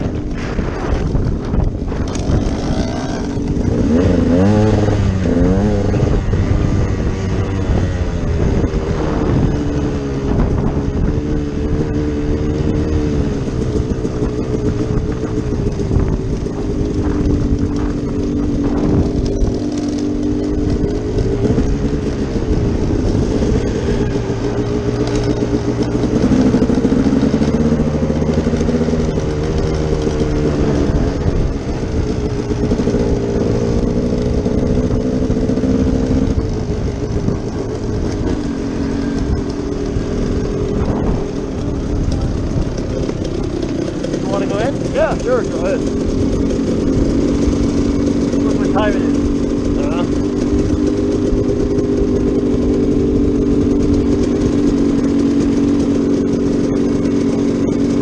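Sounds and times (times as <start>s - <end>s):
wind on microphone: 0.0s - 55.8s
dirt bike engine revving: 0.0s - 58.0s.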